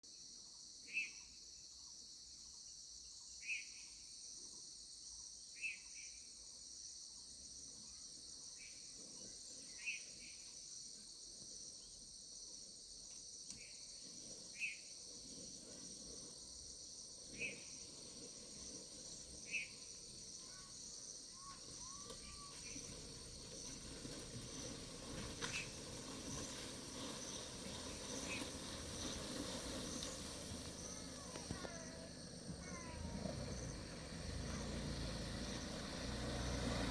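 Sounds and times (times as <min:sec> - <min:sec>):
insect chorus: 0:00.0 - 0:36.9.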